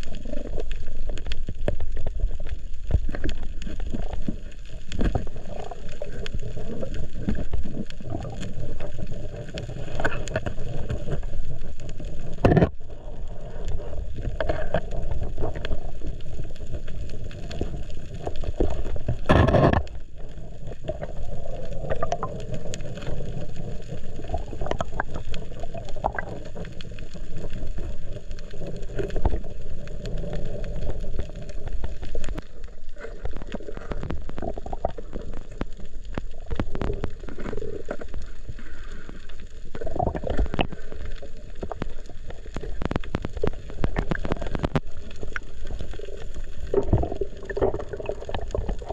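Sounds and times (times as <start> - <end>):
fine crackling clicks: 0.0 - 48.9
low underwater rumble: 0.0 - 48.9.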